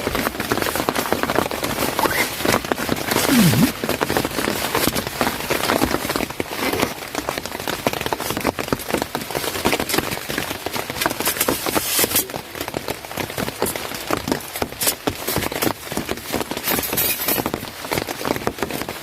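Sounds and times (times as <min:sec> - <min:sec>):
heavy rain pattering: 0:00.0 - 0:19.0.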